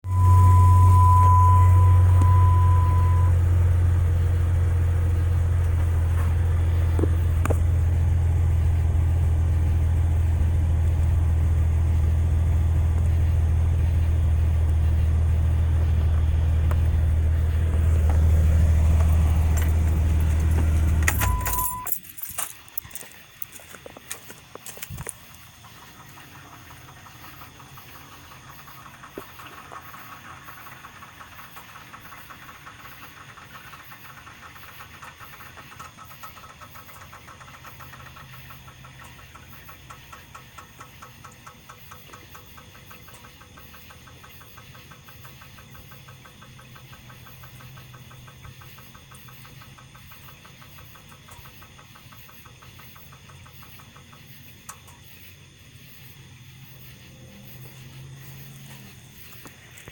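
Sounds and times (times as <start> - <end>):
engine ticking: 0.0 - 59.9.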